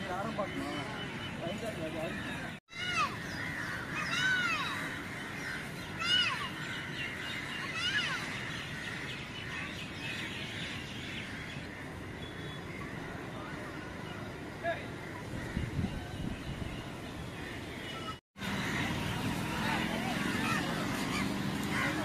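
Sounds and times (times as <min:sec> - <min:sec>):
birds chirping and calling: 0:00.0 - 0:22.0
outdoor background noise: 0:00.0 - 0:22.0.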